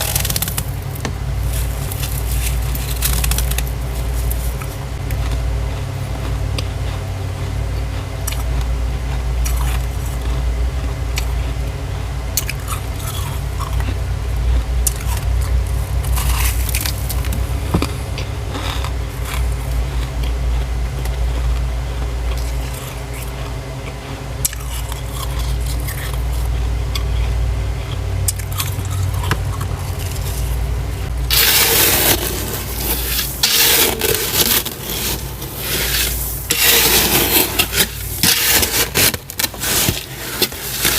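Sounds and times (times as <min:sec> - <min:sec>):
freezer low hum: 0:00.0 - 0:40.9
frost scraping and crunching: 0:00.0 - 0:40.9.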